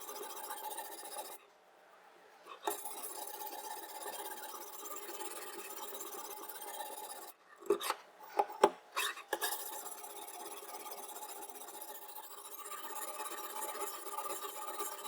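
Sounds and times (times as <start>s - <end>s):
knife rasping on sharpening stone: 2.5s - 15.0s.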